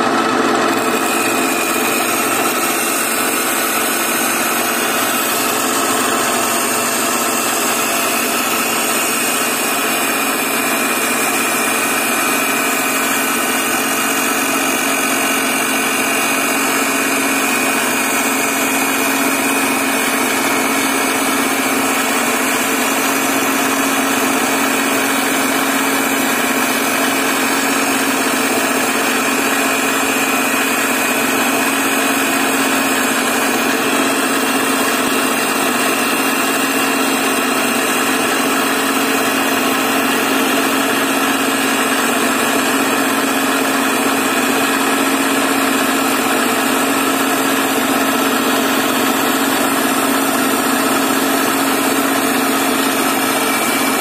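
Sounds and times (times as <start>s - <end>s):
grinding disc cutting steel: 0.0s - 54.0s.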